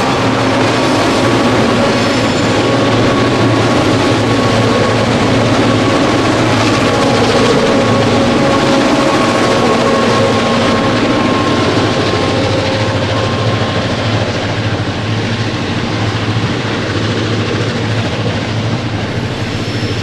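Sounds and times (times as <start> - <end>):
locomotive engine drone: 0.0 - 20.0
steel wheels clattering on rails: 0.0 - 20.0.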